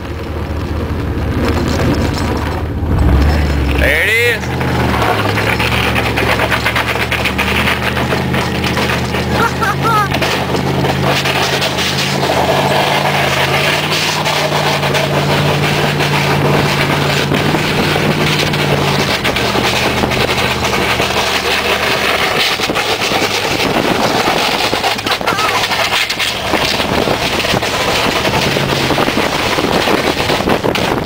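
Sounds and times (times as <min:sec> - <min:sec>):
pickup truck engine: 0:00.0 - 0:31.0
rough rushing noise: 0:00.0 - 0:31.0.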